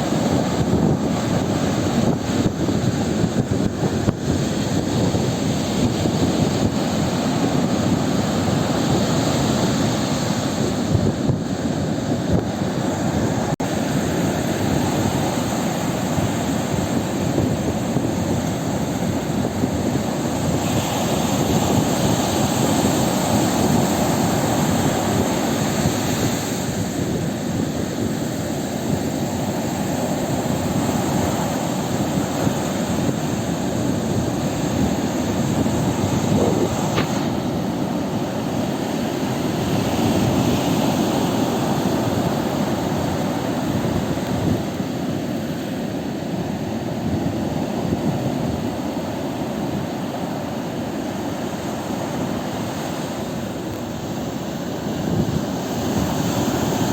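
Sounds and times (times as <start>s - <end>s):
ocean waves breaking: 0.0s - 56.9s.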